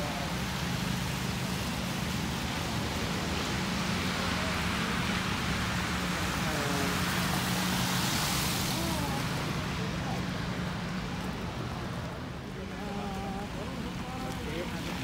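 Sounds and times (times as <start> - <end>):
car tyres on wet pavement: 0.0 - 15.0
low traffic hum: 0.0 - 15.0
rain hiss: 0.0 - 15.0.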